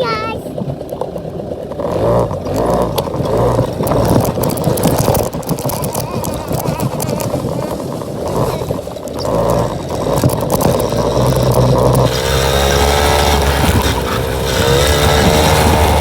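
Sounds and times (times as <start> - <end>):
small two-stroke engine running: 0.0 - 16.0.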